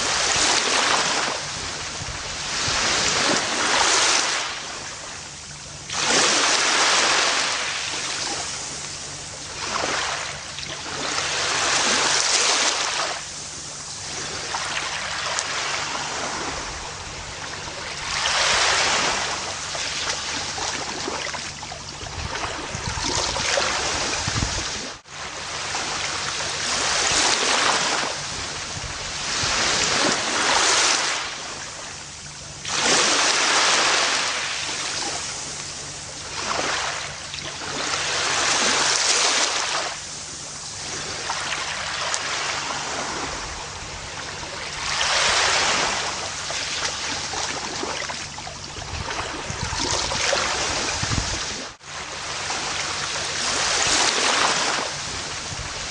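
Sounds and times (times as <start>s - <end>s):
ocean waves washing up beach: 0.0s - 55.9s.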